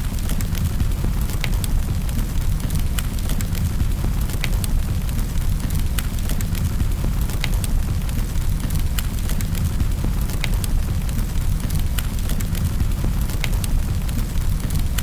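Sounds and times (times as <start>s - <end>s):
sharp pops and snaps of fire: 0.0s - 15.0s
wood fire crackling: 0.0s - 15.0s.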